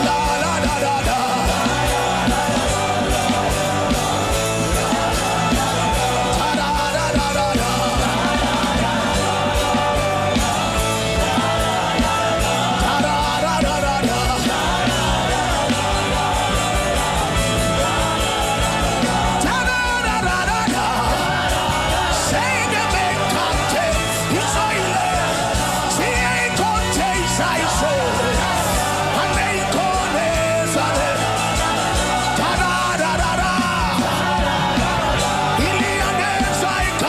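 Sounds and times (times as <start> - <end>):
backing music: 0.0 - 37.0
congregation praying aloud: 0.0 - 37.0.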